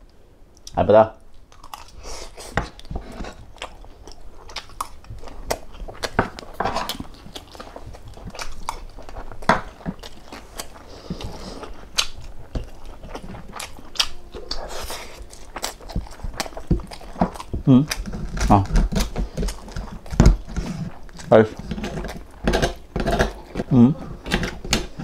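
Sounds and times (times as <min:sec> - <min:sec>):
person chewing and smacking: 0:00.6 - 0:25.0.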